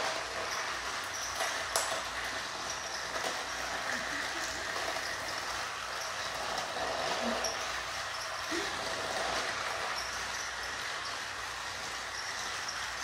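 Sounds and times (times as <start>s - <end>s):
toy trains whirring: 0.0s - 13.0s.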